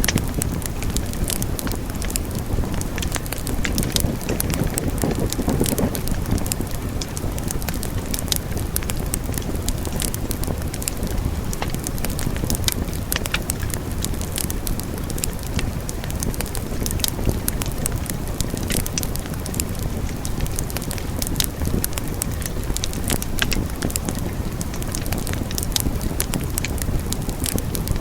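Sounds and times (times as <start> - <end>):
low fire rumble: 0.0 - 28.0
wood fire crackling and popping: 0.0 - 28.0.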